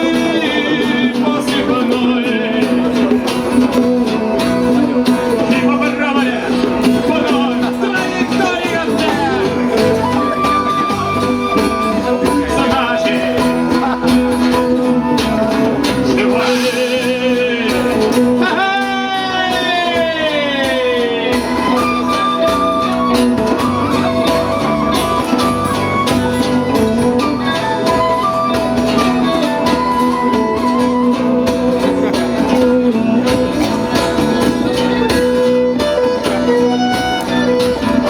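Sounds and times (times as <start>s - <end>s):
live band instrumental music: 0.0s - 38.0s.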